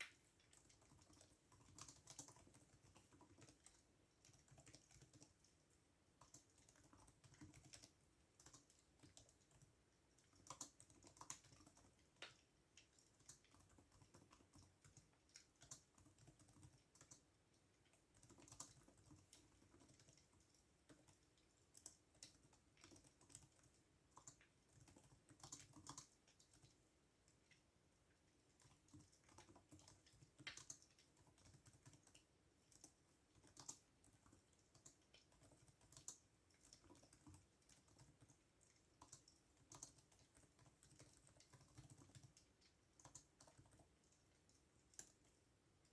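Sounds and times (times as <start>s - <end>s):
typing on keyboard: 0.0s - 27.6s, 28.4s - 45.9s.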